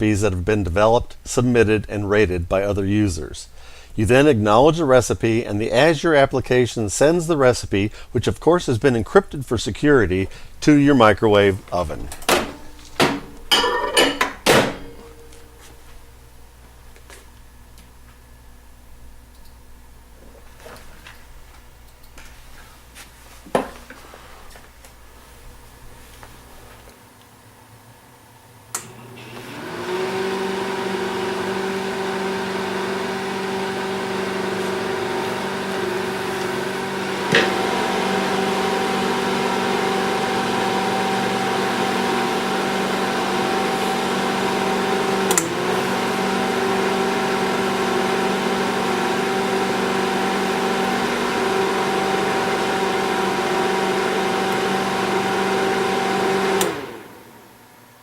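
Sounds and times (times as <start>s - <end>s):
microwave oven humming: 9.8s - 58.0s.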